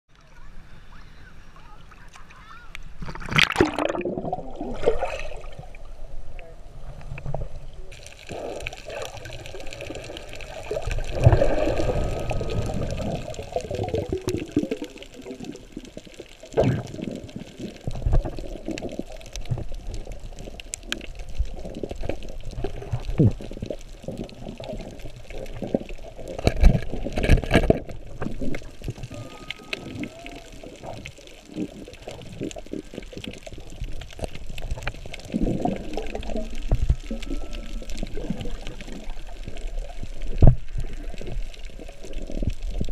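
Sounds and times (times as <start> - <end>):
muffled underwater sloshing and bubbling: 1.9 - 42.9.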